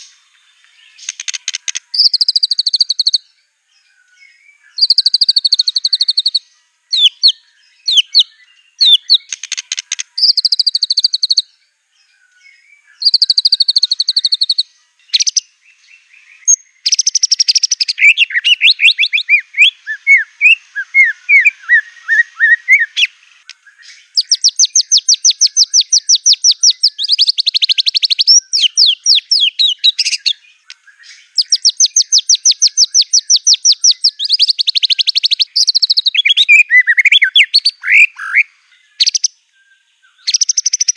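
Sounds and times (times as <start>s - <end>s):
songbird singing whistles and trills: 0.0s - 40.9s.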